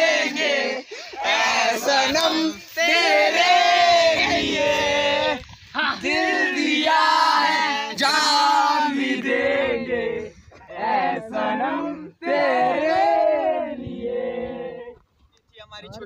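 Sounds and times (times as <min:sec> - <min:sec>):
men singing together: 0:00.0 - 0:15.0.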